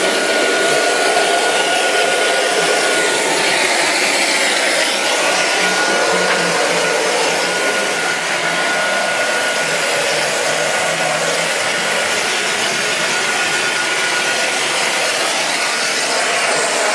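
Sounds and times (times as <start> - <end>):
plastering spray machine hissing: 0.0 - 16.9
thin steady whine: 0.0 - 16.9.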